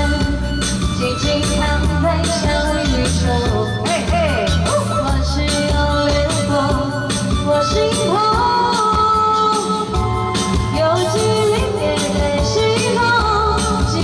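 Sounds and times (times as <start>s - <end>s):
pop song with singing: 0.0s - 14.0s.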